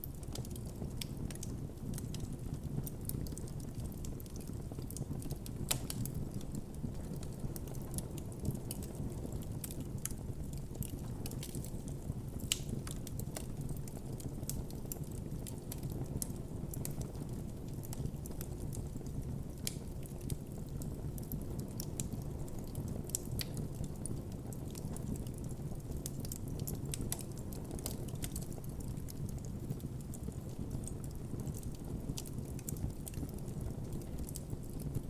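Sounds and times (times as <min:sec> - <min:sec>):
campfire flames rumbling: 0:00.0 - 0:35.0
fire crackles and pops: 0:00.0 - 0:35.0.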